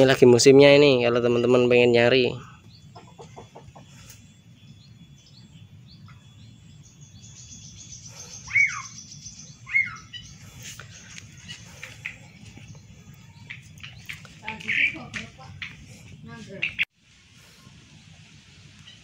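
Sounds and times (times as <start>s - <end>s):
bird chirping: 0.1s - 16.9s
high rapid bird trill: 1.2s - 16.9s.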